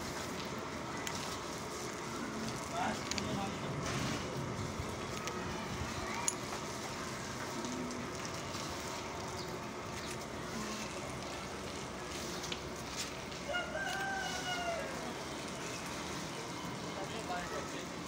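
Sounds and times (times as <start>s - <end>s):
rain on a concrete rooftop: 0.0s - 18.0s.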